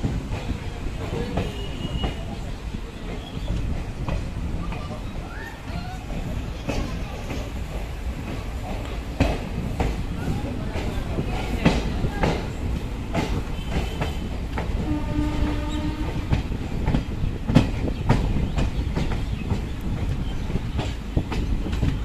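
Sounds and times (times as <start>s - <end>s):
train wheels clacking: 0.0s - 22.0s.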